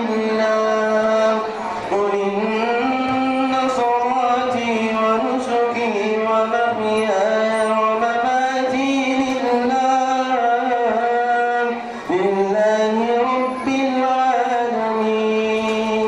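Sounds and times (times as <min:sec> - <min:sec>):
young male voice chanting: 0:00.0 - 0:16.0.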